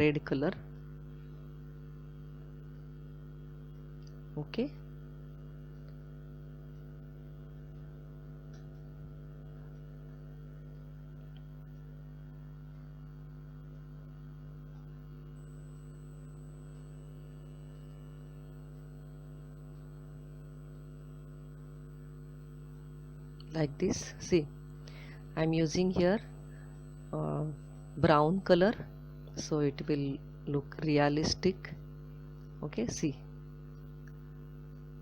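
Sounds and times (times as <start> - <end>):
electrical mains hum: 0.0 - 35.0
faint high whine: 0.0 - 35.0.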